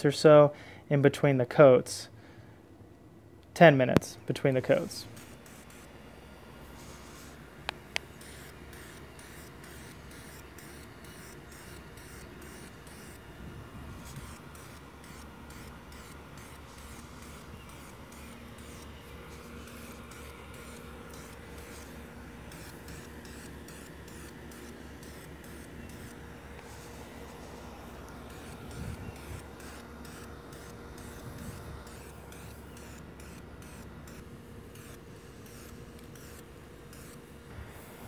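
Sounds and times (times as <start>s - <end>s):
spray paint can hissing: 4.6s - 38.0s.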